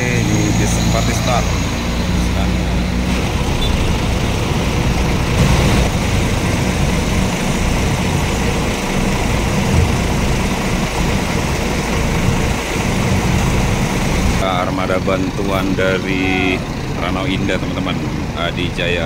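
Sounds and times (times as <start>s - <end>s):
diesel bus engine running: 0.0s - 19.0s.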